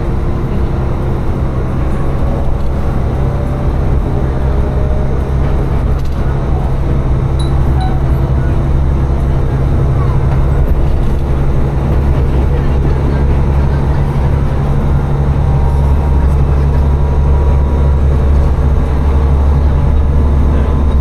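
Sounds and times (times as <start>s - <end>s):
diesel engine drone: 0.0s - 21.0s
wheels rumbling on rails: 0.0s - 21.0s.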